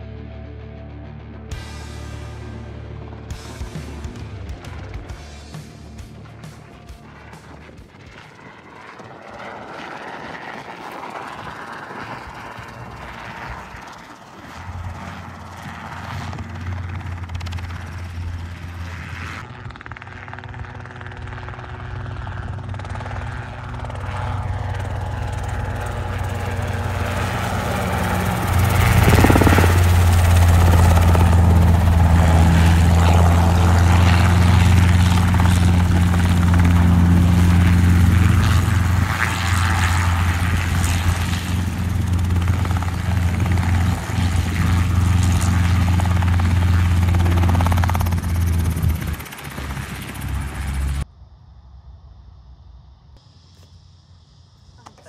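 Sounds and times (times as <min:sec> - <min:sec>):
helicopter rotor and engine: 0:01.6 - 0:51.1.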